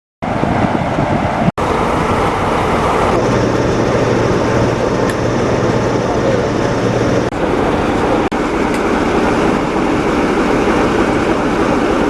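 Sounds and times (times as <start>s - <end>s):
diesel locomotive idling: 1.6s - 12.0s
steady low hum: 1.6s - 12.0s.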